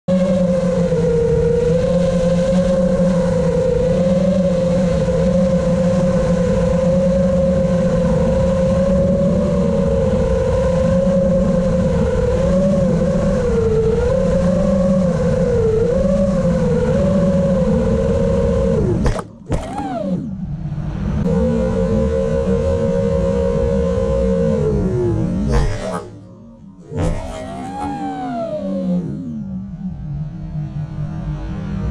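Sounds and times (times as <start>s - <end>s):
quadcopter propellers whining: 0.1s - 31.9s.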